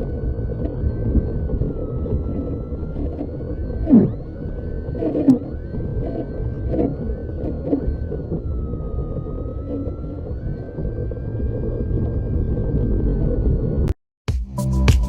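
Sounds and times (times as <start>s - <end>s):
model plane electric motor whining: 0.0s - 13.8s
wind rumble: 0.0s - 13.9s.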